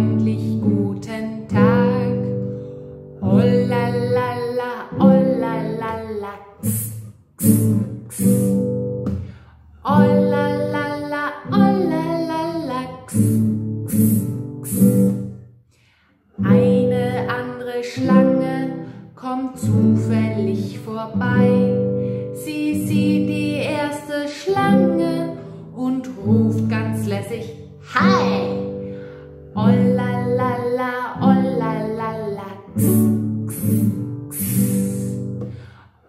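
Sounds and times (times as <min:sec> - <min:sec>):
woman singing: 0:00.0 - 0:08.8, 0:09.8 - 0:15.2, 0:16.4 - 0:28.8, 0:29.4 - 0:35.6
strummed acoustic guitar: 0:00.0 - 0:15.5, 0:16.3 - 0:35.9.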